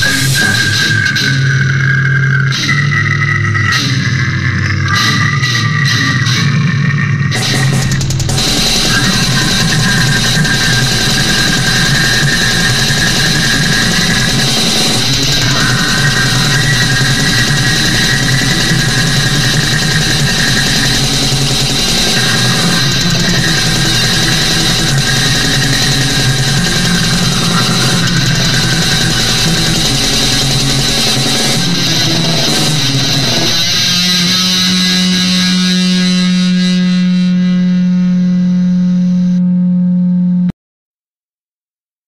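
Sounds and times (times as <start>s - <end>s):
heavy metal music: 0.0s - 38.4s.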